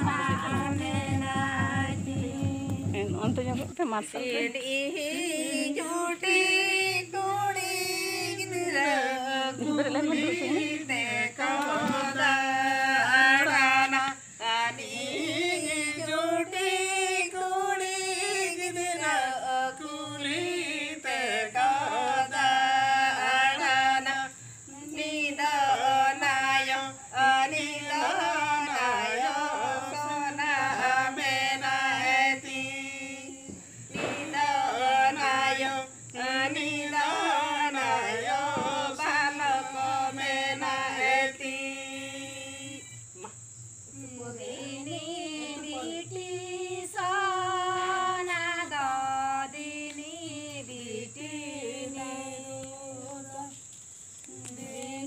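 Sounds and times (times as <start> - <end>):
women singing unaccompanied: 0.0 - 55.0.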